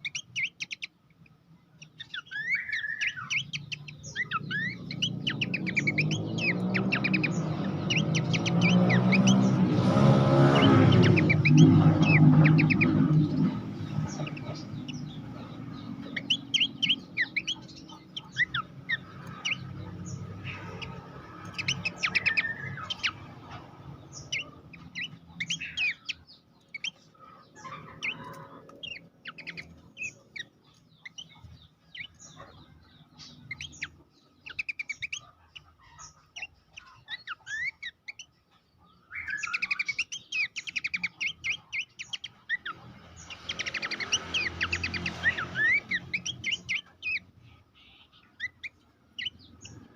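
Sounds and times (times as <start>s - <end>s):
bird singing sharp chirping notes: 0.0s - 49.9s.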